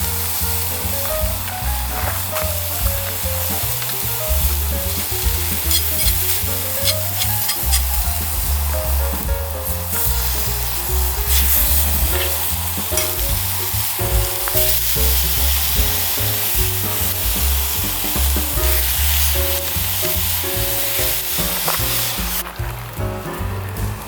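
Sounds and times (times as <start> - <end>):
food sizzling in a pan: 0.0 - 22.4
background music with bass: 0.0 - 24.0.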